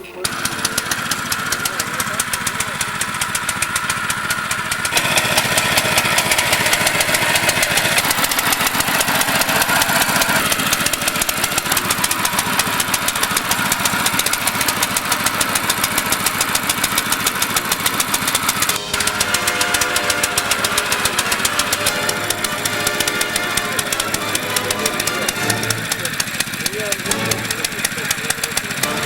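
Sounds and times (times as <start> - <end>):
small engine chugging: 0.0 - 29.0.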